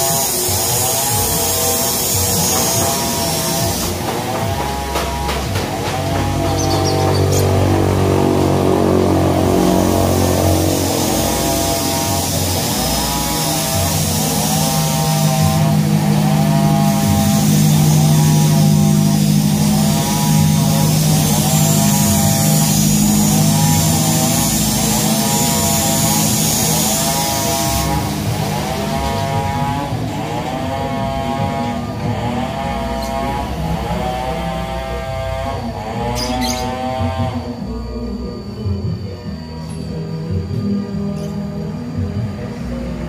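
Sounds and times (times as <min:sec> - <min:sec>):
small engine running: 0:00.0 - 0:43.0.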